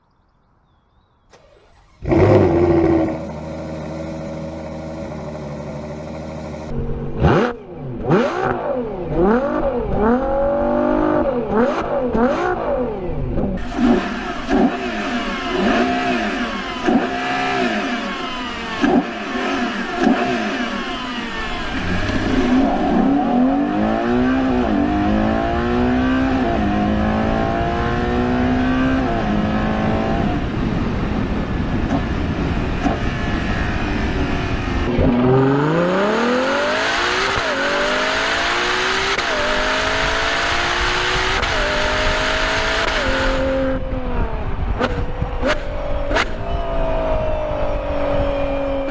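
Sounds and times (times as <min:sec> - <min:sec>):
car engine revving and accelerating: 0:01.3 - 0:46.5.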